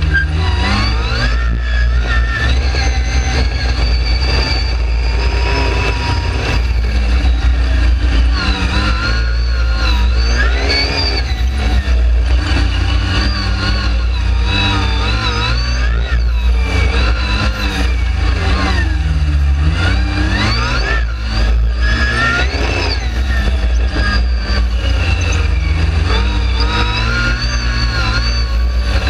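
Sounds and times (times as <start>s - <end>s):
dune buggy engine revving: 0.0s - 29.0s.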